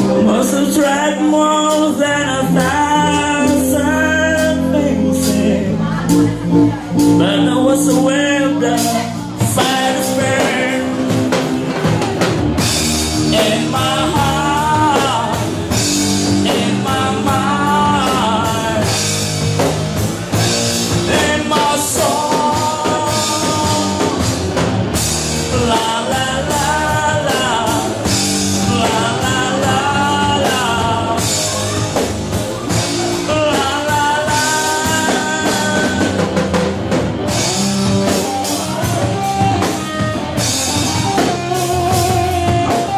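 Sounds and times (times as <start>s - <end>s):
person singing: 0.0s - 42.9s
rock band playing: 0.0s - 42.9s.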